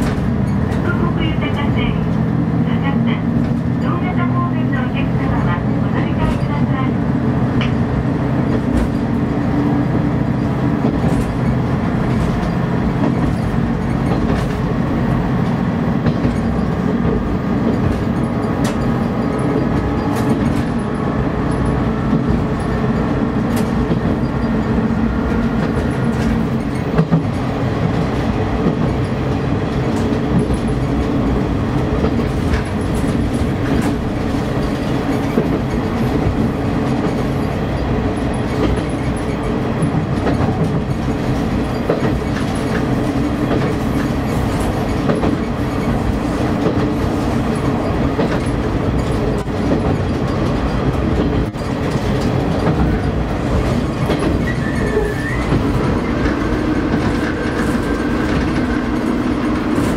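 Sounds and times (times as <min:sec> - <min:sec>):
wheels clicking over rail joints: 0:10.3 - 0:59.9.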